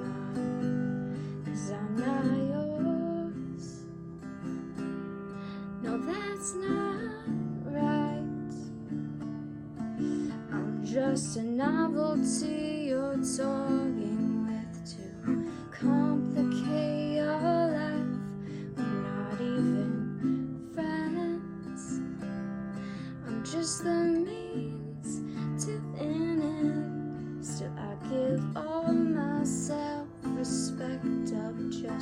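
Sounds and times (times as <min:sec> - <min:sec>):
woman singing: 0:00.0 - 0:04.1, 0:05.6 - 0:09.0, 0:10.0 - 0:32.0
strummed acoustic guitar: 0:00.0 - 0:32.0.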